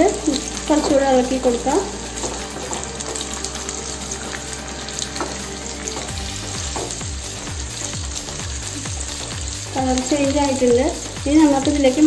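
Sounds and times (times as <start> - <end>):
chillies sizzling in hot oil: 0.0 - 12.0
wooden spatula stirring: 0.0 - 12.0.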